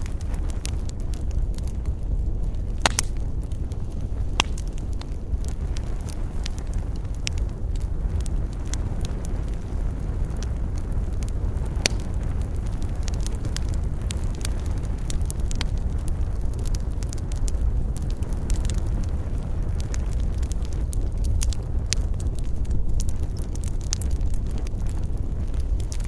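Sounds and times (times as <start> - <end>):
campfire flames rumbling: 0.0 - 26.0
fire crackling and popping: 0.0 - 26.0.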